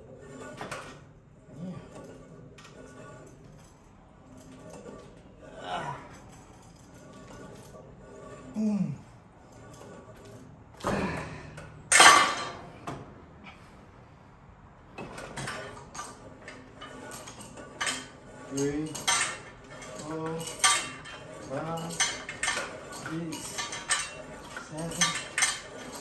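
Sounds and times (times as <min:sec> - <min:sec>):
metal weights clanking: 0:00.2 - 0:12.9, 0:15.0 - 0:26.0.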